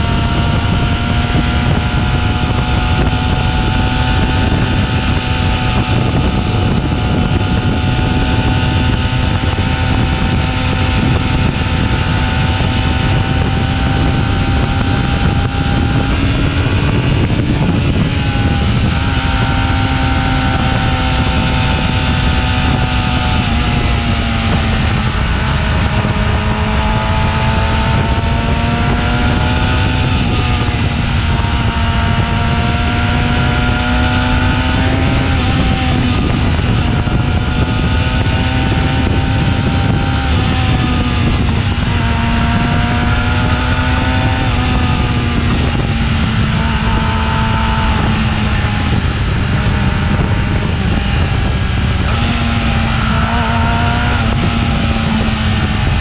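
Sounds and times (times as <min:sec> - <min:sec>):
motorcycle engine running: 0:00.0 - 0:56.0
wind rumbling on microphone: 0:00.0 - 0:56.0.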